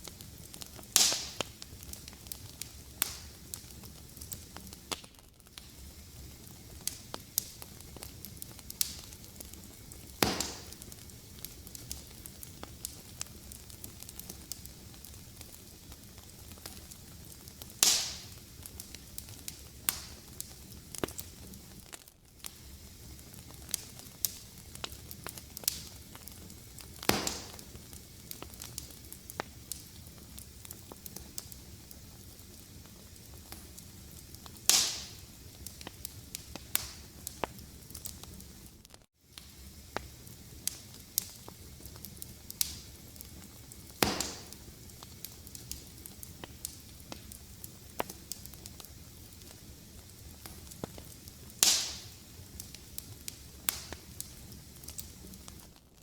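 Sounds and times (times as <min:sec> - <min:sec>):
loud fire pops: 0:00.0 - 0:55.8
fire crackling: 0:00.0 - 0:56.0
soft steady hiss: 0:00.0 - 0:56.0.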